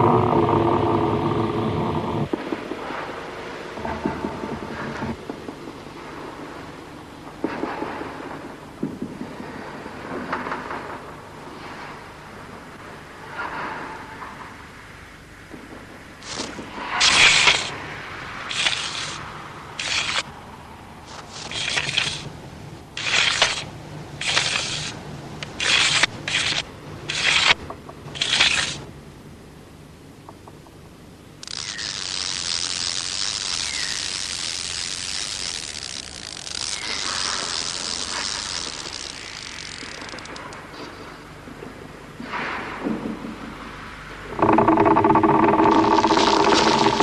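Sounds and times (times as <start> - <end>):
steady high hiss: 0.0 - 47.0.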